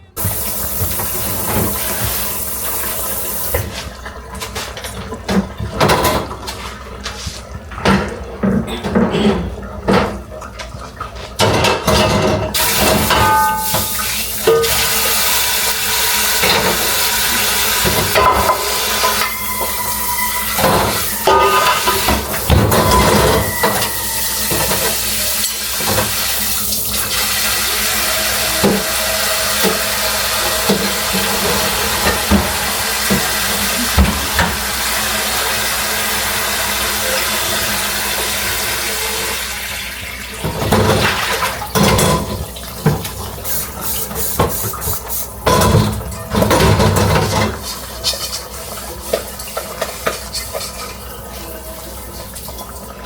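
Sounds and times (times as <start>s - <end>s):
tap water running into sink: 0.0s - 53.0s
pots and dishes clattering: 0.1s - 35.3s, 40.4s - 52.8s.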